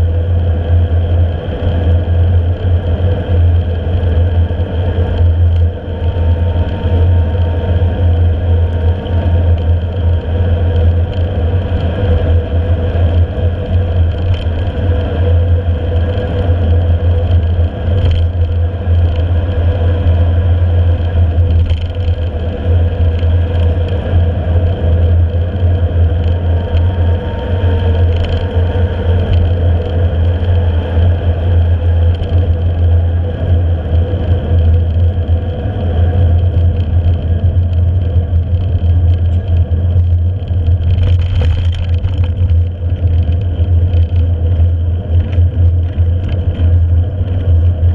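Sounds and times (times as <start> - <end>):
bike tyres rolling on asphalt: 0.0 - 47.9
wind rumble on microphone: 0.0 - 47.9.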